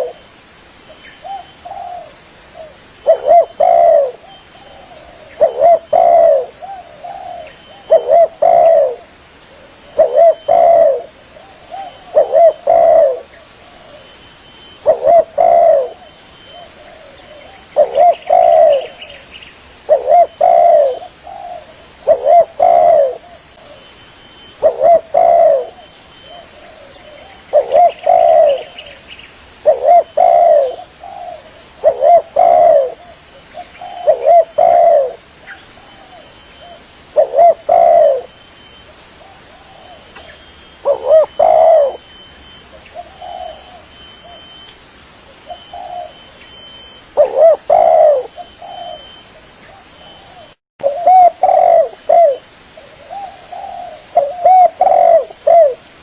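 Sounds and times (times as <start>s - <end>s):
dove cooing: 0.0s - 0.2s, 1.2s - 19.2s, 19.8s - 29.0s, 29.6s - 44.6s, 45.3s - 56.0s.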